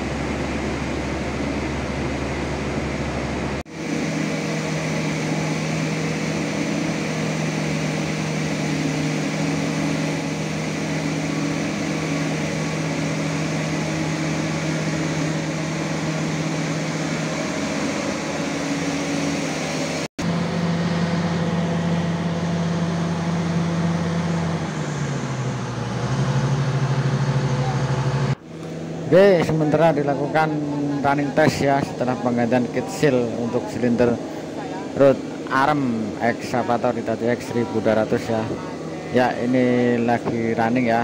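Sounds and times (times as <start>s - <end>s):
excavator engine and hydraulics: 0.0s - 41.0s.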